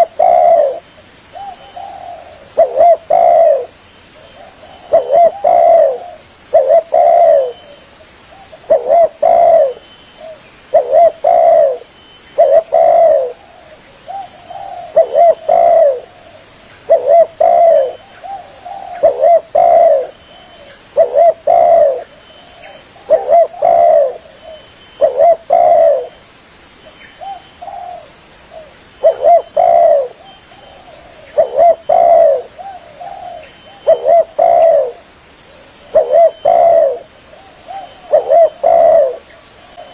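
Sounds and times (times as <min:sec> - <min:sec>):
dove cooing: 0:00.0 - 0:26.2, 0:27.2 - 0:39.9.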